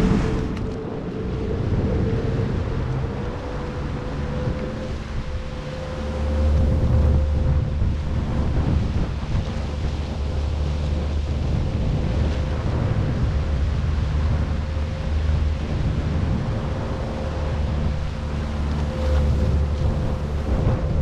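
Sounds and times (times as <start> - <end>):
churning boat wake: 0.0 - 21.0
outboard motors humming: 0.0 - 21.0
wind buffeting microphone: 0.0 - 21.0.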